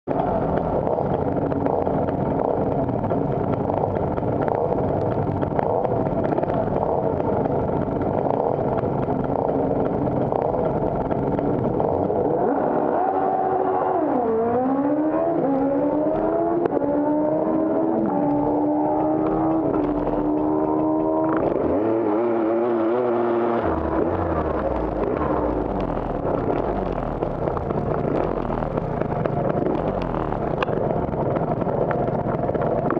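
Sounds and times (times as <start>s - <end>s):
scooter engine revving: 0.1s - 32.9s.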